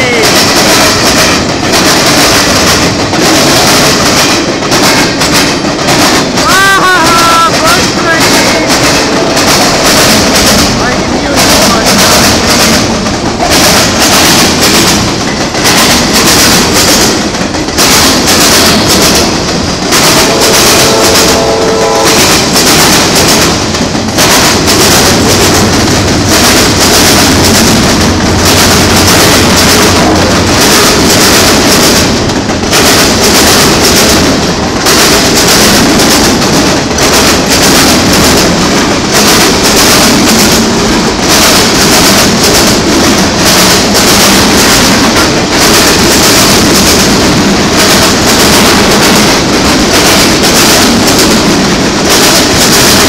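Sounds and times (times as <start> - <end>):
train wheels rumbling on rails: 0.0 - 53.0
wheel trucks clacking: 0.0 - 53.0.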